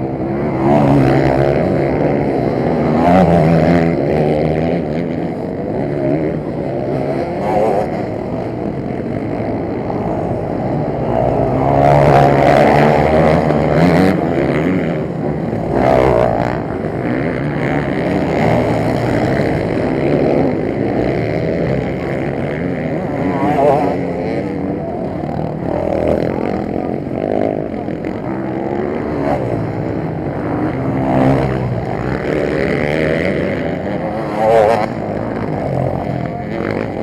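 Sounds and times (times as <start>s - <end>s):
motocross bike engines racing: 0.0s - 37.0s.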